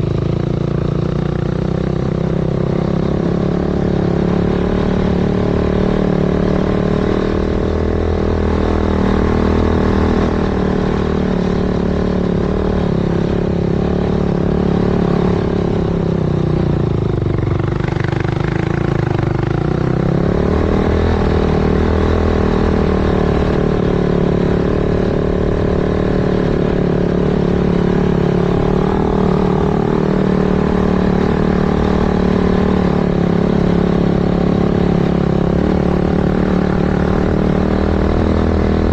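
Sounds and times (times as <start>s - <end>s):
quad engine running hard: 0.0s - 38.9s.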